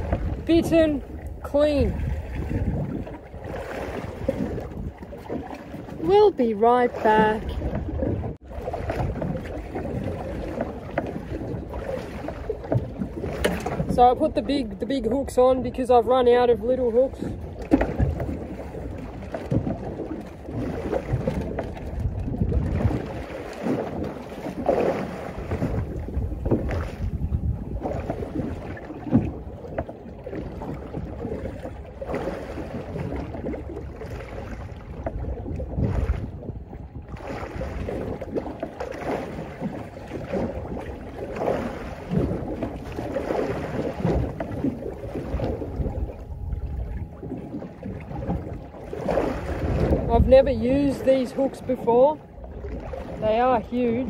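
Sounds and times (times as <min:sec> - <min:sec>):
water lapping against boat hull: 0:00.0 - 0:54.0
wind buffeting microphone: 0:00.0 - 0:54.0.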